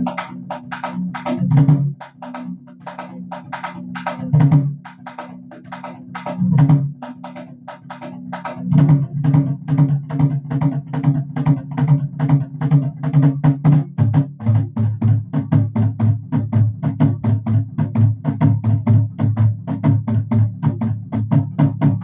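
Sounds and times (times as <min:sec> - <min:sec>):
kettle drums beaten with sticks: 0:00.0 - 0:22.0.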